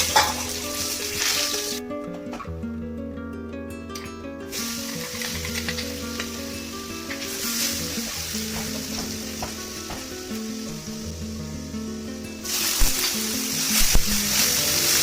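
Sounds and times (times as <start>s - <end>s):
food sizzling in a pan: 0.0s - 1.8s, 4.5s - 15.0s.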